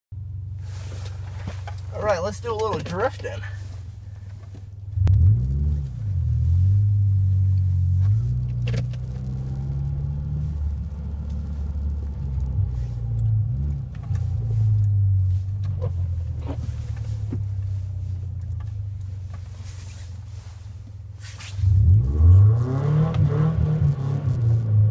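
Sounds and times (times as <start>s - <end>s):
car engine revving: 0.6s - 24.9s.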